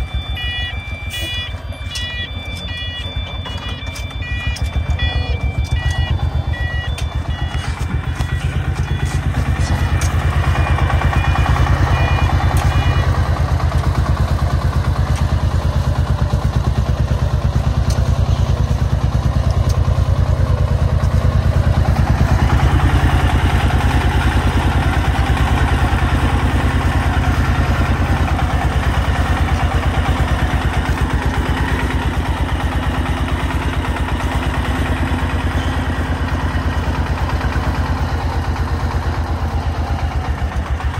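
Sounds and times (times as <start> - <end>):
diesel truck engine chugging: 0.0 - 40.9.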